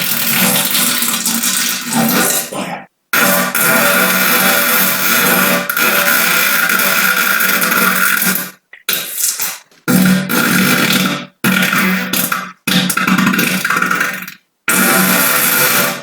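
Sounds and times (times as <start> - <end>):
loud buzzing fart: 0.0 - 16.0
short fart bursts: 0.0 - 16.0.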